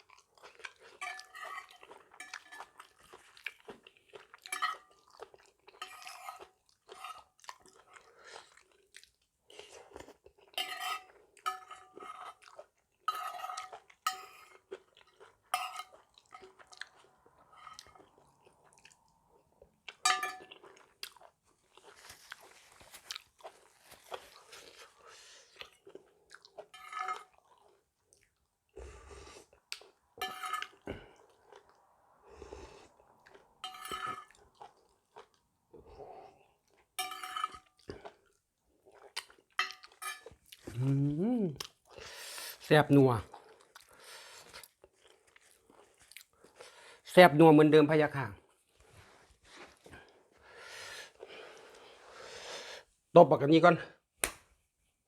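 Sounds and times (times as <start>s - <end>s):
person crunching and chewing food: 0.0s - 42.6s, 43.2s - 47.0s, 48.4s - 52.4s.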